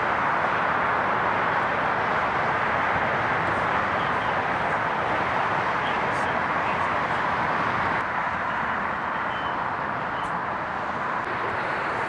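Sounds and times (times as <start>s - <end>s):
traffic rushing: 0.0s - 12.0s.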